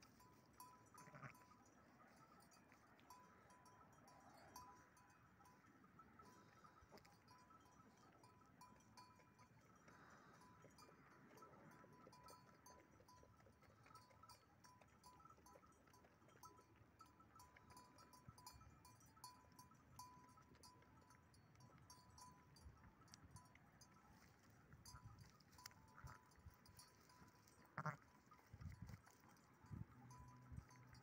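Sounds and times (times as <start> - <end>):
distant livestock bells ringing: 0.0 - 31.0.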